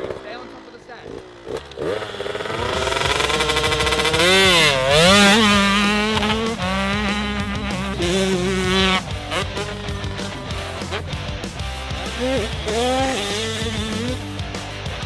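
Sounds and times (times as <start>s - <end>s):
two-stroke motorbike engine revving: 0.0s - 15.0s.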